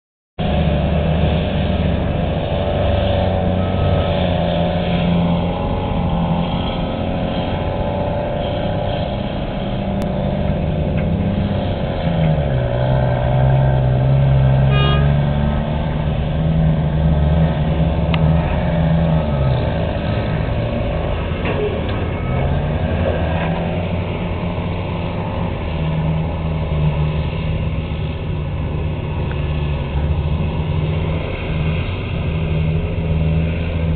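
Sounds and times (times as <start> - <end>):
heavy diesel engines running: 0.4 - 33.9.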